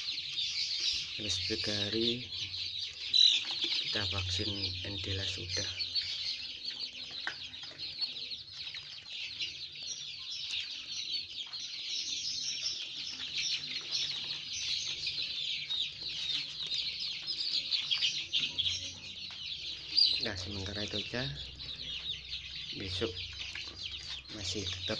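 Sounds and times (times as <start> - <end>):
chicks peeping: 0.0 - 24.9.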